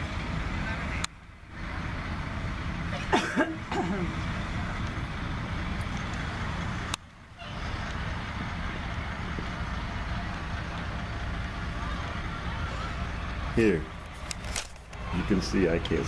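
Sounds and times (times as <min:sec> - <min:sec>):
truck engine rumble: 0:00.0 - 0:16.0.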